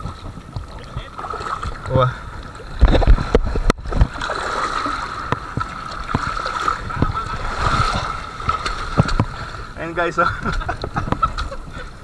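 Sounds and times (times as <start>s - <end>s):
seawater splashing over rocks: 0.0s - 11.6s.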